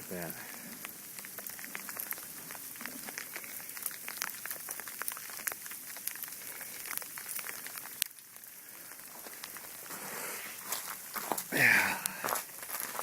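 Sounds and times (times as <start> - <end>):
steady hiss: 0.0 - 13.0
sleet ticking on ice: 0.1 - 13.0.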